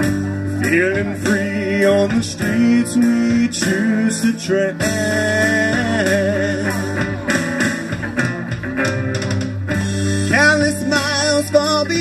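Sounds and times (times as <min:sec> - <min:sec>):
man singing: 0:00.0 - 0:08.2, 0:10.2 - 0:12.0
bass line: 0:00.0 - 0:12.0
electric guitar: 0:00.0 - 0:12.0.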